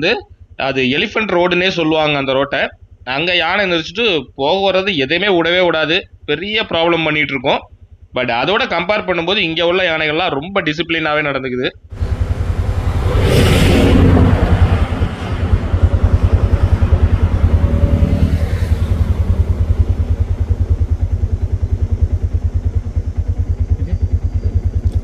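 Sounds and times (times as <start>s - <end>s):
auto-rickshaw engine running: 0.0s - 10.2s, 11.9s - 25.0s.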